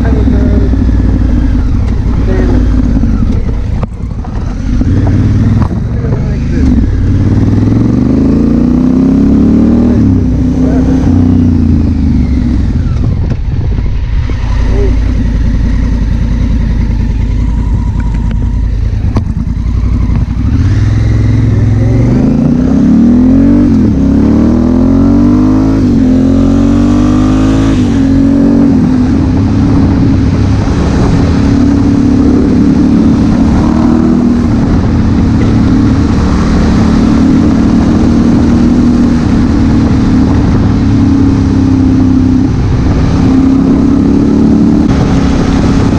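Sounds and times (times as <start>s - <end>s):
wind noise: 0.0s - 10.5s, 11.1s - 45.9s
motorcycle engine accelerating: 0.0s - 45.9s.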